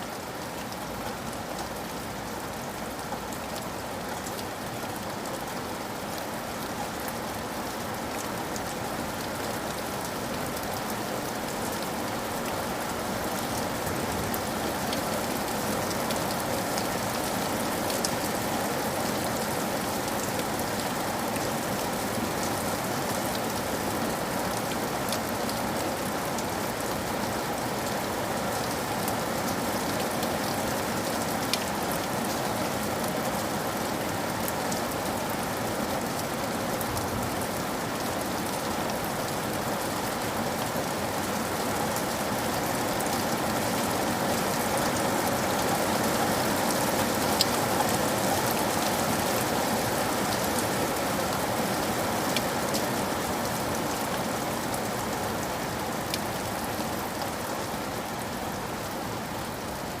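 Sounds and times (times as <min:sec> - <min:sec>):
steady rain patter: 0:00.0 - 1:00.0.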